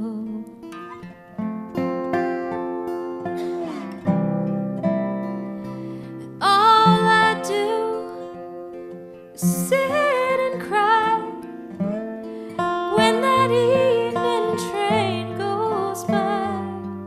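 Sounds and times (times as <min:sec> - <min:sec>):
acoustic country guitars playing: 0:00.0 - 0:17.0
sliding guitar lead line: 0:00.0 - 0:17.0.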